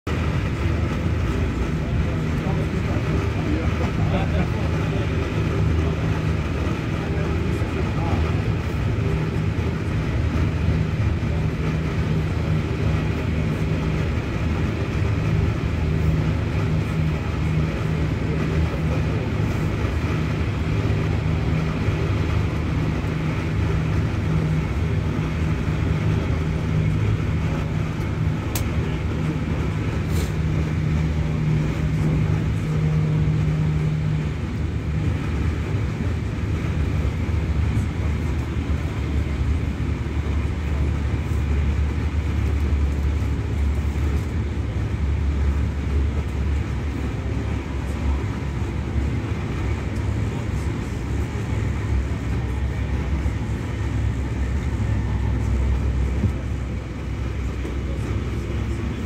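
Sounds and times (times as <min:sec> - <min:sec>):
train cabin hum: 0:00.1 - 0:59.0
train wheels rumbling on rails: 0:00.1 - 0:59.0.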